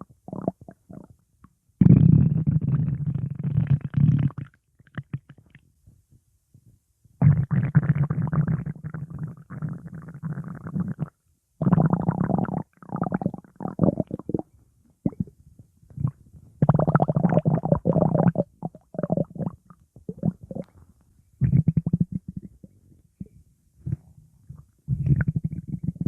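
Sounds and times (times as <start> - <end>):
stomach growling: 0.0 - 1.2, 1.8 - 5.6, 7.2 - 26.0.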